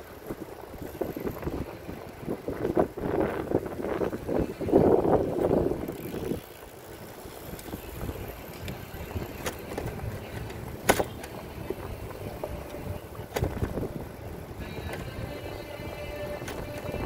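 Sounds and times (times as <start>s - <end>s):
bicycle rattling clicks: 0.0s - 17.0s
bicycle rolling on pavement: 0.0s - 17.0s.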